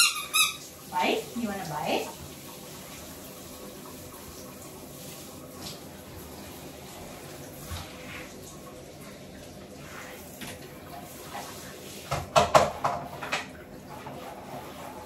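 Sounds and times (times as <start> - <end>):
water in a bathtub: 0.0 - 15.0.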